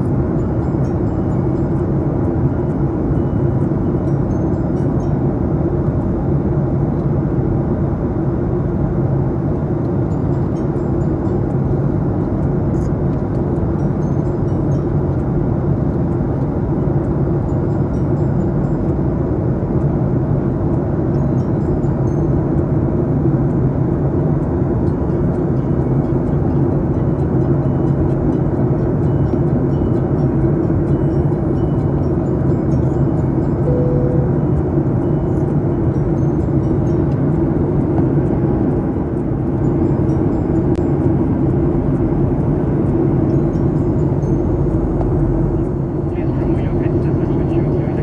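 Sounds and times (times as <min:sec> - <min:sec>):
airliner cabin engine noise: 0:00.0 - 0:48.0.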